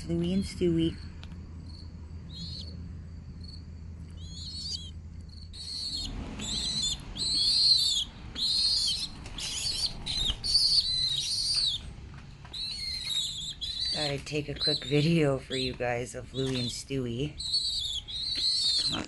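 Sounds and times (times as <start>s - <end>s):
pigeon squabs squeaking: 2.3s - 2.8s, 3.4s - 11.8s, 12.5s - 19.0s.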